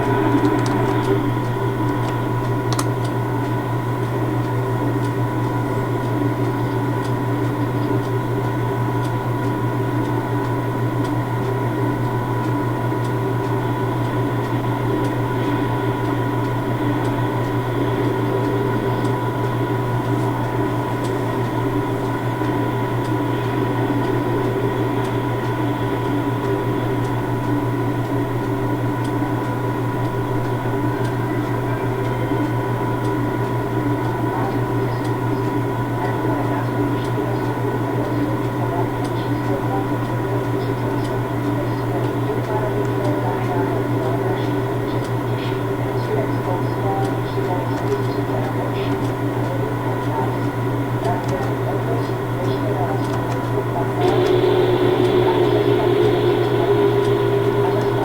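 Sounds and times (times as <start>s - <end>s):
machine hum with high whine: 0.0s - 58.0s.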